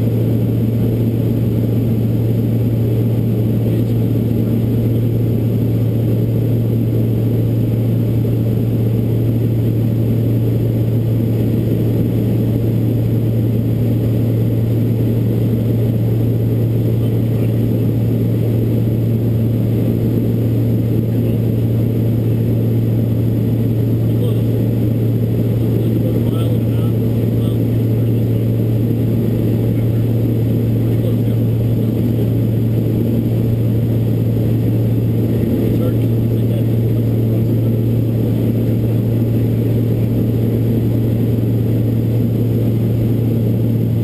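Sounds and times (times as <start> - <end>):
turboprop engines droning in flight: 0.0 - 44.0.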